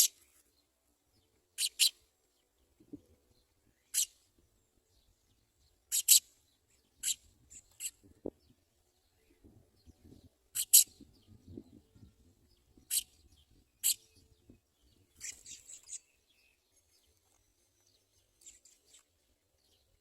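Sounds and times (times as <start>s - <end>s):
sparrow chirping: 1.3s - 20.0s.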